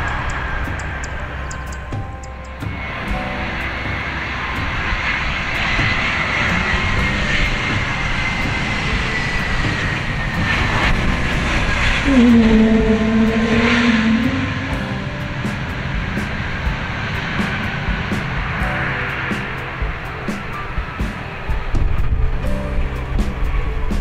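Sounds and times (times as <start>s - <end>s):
high engine whine: 0.0s - 24.0s
jet engines rushing: 0.0s - 24.0s
low droning tone: 0.0s - 24.0s.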